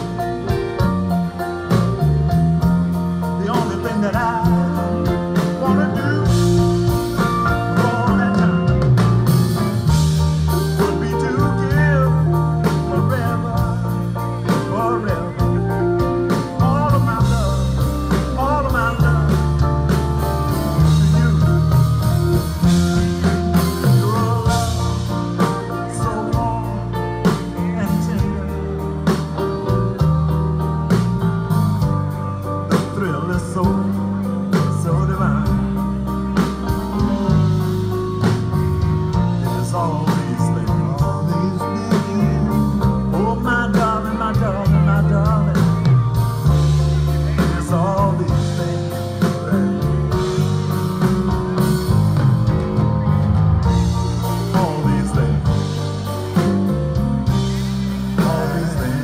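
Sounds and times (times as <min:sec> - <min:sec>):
live band playing slow r and b: 0:00.0 - 0:59.0.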